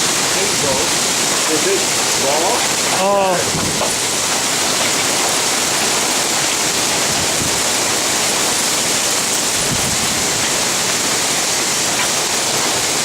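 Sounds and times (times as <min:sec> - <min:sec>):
hail and heavy rain: 0:00.0 - 0:13.0.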